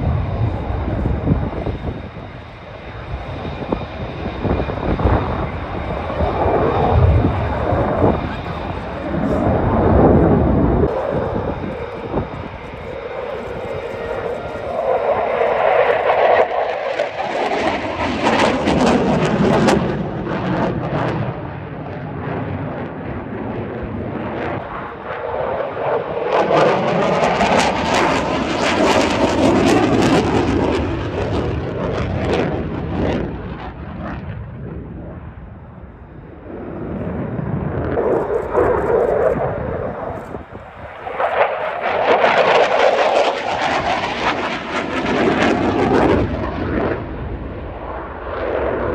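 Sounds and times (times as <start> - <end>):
crackling jet roar: 0.0 - 48.9.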